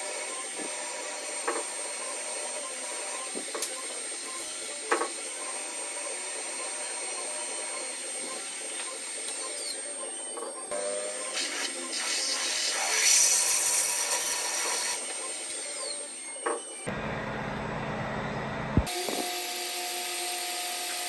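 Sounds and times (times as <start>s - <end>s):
power tool whining hiss: 0.0s - 16.8s, 18.8s - 21.0s.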